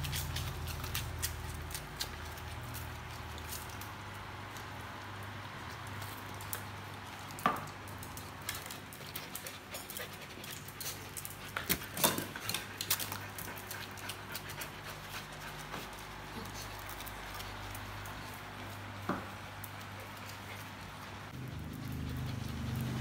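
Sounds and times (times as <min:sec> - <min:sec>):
claws clicking on tiled floor: 0:00.0 - 0:23.0.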